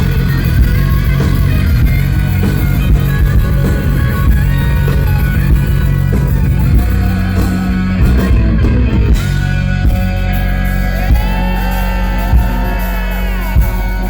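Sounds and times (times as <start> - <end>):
electric guitar: 0.0 - 14.0
hard rock band playing live: 0.0 - 14.0.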